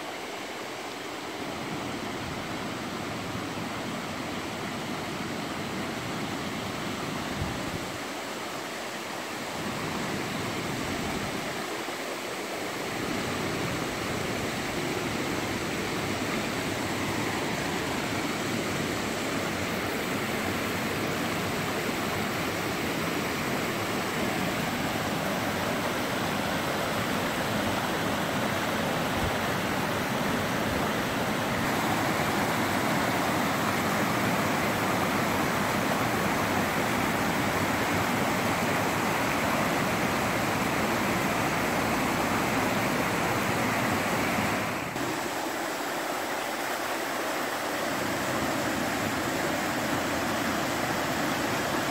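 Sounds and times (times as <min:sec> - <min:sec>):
waterfall rushing over rocks: 0:00.0 - 0:51.9.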